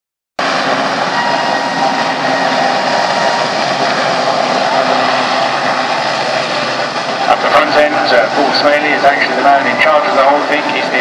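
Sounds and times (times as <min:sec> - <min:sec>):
helicopter hovering: 0:00.4 - 0:11.0.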